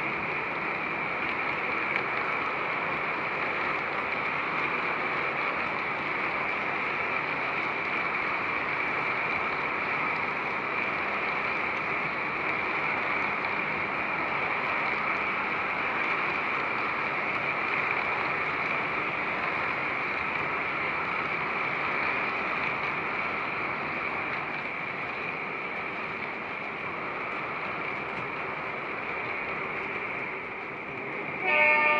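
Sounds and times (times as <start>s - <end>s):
model train whirring on track: 0.0s - 31.9s.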